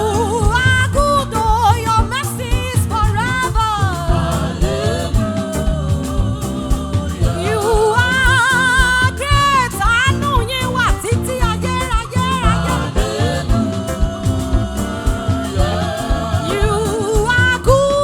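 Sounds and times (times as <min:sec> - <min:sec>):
band playing gospel music: 0:00.0 - 0:18.0.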